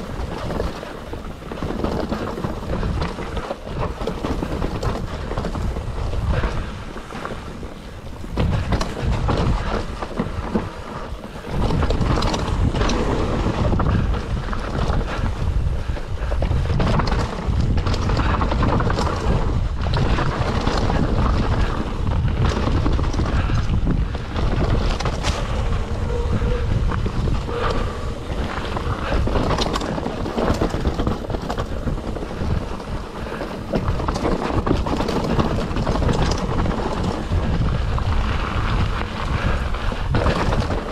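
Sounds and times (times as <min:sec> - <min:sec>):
bike rattling over bumps: 0:00.0 - 0:40.9
tyres rumbling over dirt: 0:00.0 - 0:40.9
wind buffeting microphone: 0:00.0 - 0:40.9.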